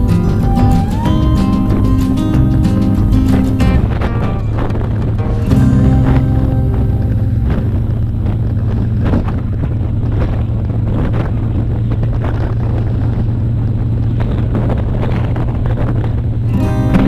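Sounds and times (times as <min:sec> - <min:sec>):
vehicle engine droning: 0:00.0 - 0:14.7.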